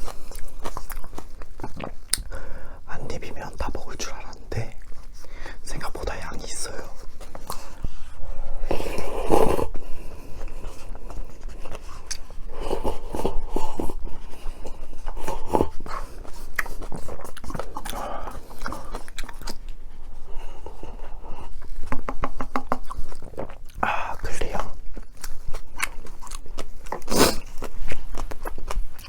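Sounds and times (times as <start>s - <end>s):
person chewing crunchy food: 0.0s - 2.6s, 4.6s - 29.0s.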